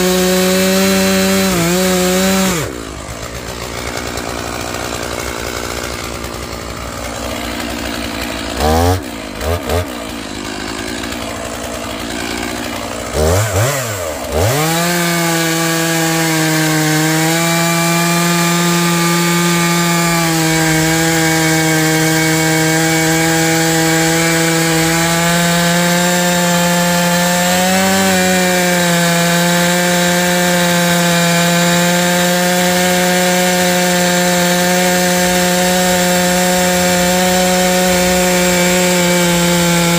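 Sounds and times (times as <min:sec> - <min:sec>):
chainsaw revving and cutting log: 0:00.0 - 0:39.9.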